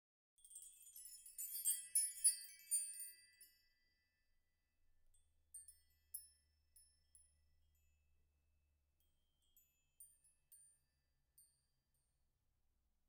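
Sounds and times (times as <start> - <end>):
high tinkling chime: 0.4 - 4.5, 5.1 - 12.2.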